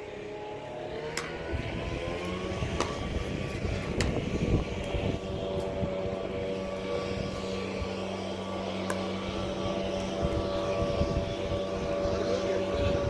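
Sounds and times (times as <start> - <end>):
steady mechanical drone: 0.0 - 13.0.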